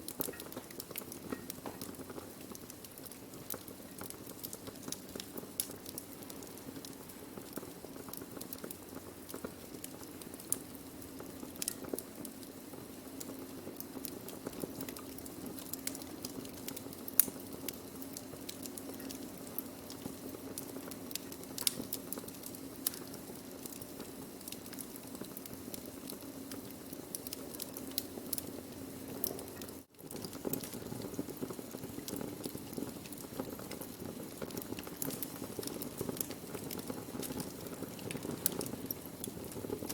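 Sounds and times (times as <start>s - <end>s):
fire crackling and popping: 0.0s - 39.9s
wood fire hissing: 0.0s - 39.9s.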